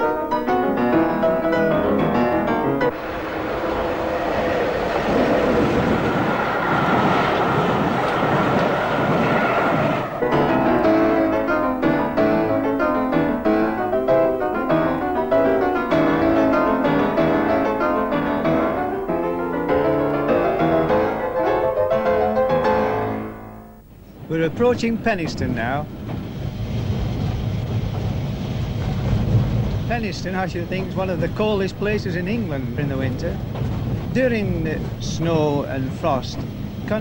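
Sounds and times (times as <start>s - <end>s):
piano background music: 0.0s - 6.4s, 10.2s - 26.3s, 29.3s - 37.0s.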